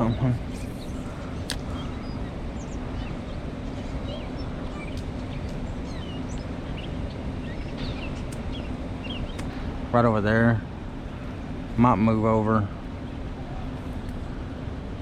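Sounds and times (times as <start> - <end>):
birds chirping: 0.0 - 14.6
steady low rumble: 0.0 - 15.0.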